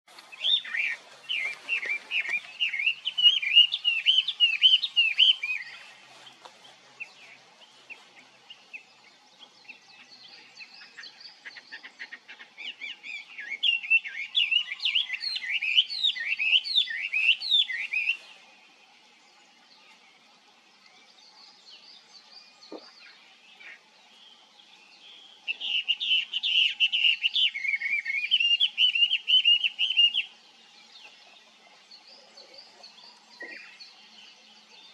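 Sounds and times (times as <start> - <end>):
scattered quiet bird notes: 0.1 - 34.9.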